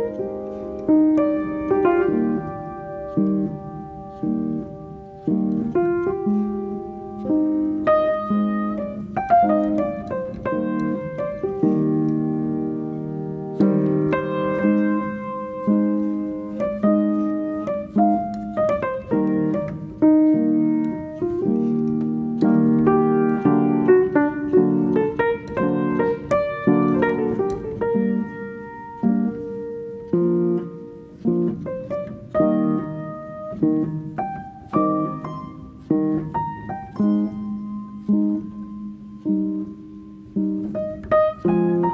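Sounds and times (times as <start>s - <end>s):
slow piano music: 0.0s - 41.9s.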